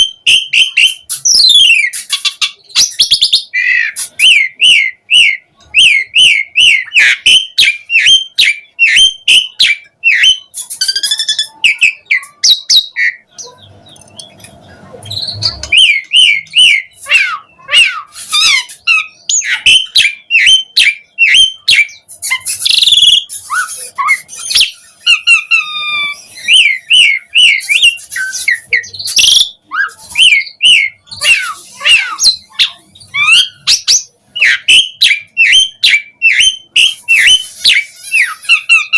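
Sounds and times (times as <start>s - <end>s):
starling singing whistled chirps: 0.0s - 14.4s, 15.0s - 38.9s.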